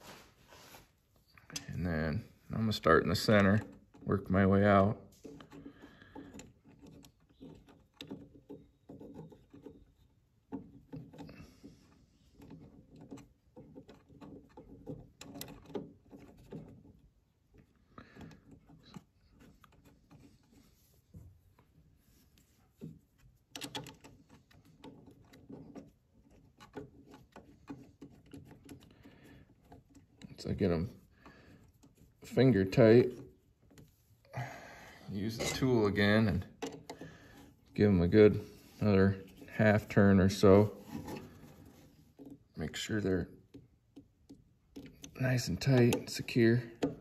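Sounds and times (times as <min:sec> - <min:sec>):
bolts clicking and rubbing: 0:00.0 - 0:47.0.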